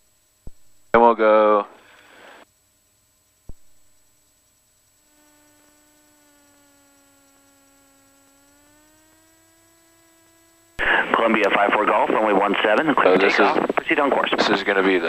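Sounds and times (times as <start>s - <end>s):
faint electrical whine: 0.0s - 15.0s.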